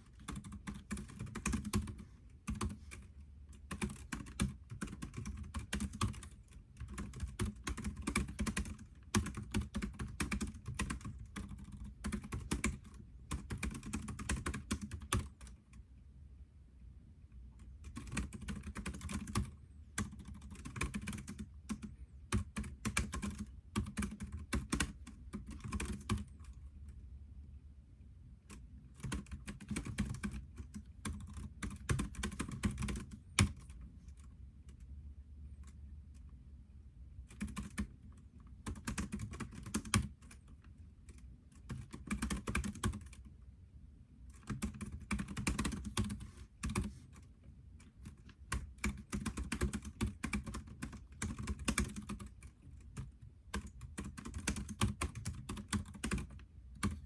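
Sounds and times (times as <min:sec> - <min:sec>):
computer keyboard typing: 0:00.0 - 0:15.8, 0:17.6 - 0:27.0, 0:28.5 - 0:34.9, 0:37.2 - 0:43.4, 0:44.3 - 0:57.0.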